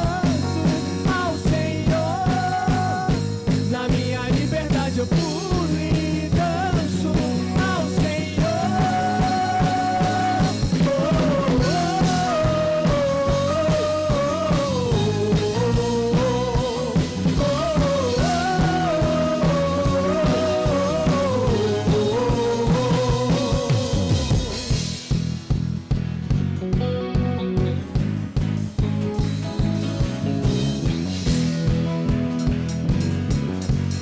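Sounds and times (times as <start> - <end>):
rock band playing: 0.0 - 34.0.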